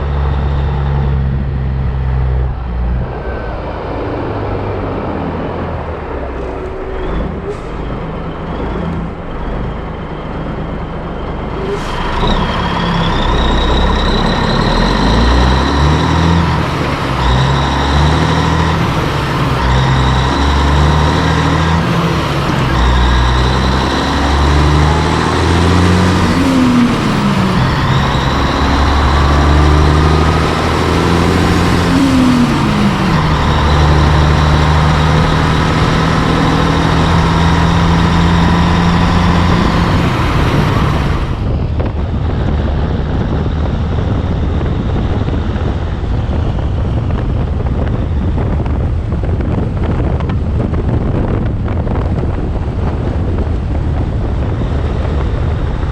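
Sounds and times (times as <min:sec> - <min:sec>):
road and wind noise: 0:00.0 - 0:55.9
truck diesel engine pulling: 0:00.0 - 0:55.9.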